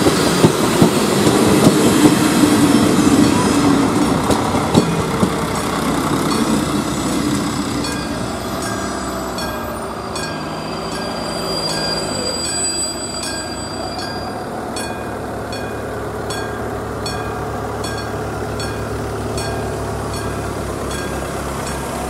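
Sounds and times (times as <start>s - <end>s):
diesel train rumbling: 0.0s - 22.0s
level-crossing warning bell ringing: 0.0s - 22.0s.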